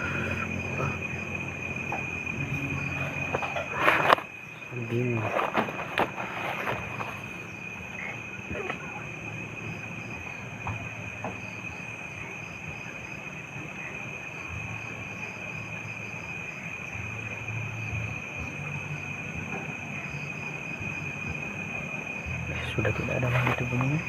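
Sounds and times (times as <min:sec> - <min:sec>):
insects trilling: 0:00.0 - 0:24.0
low murmur: 0:00.0 - 0:24.0.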